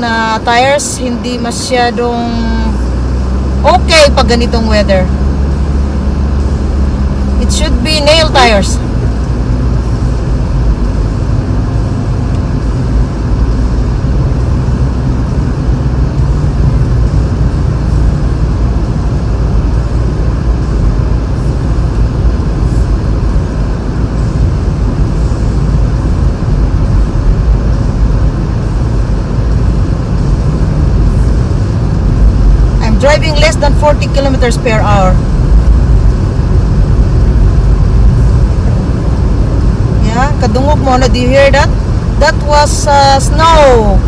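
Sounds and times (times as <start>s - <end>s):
heater fan blowing: 0.0s - 44.0s.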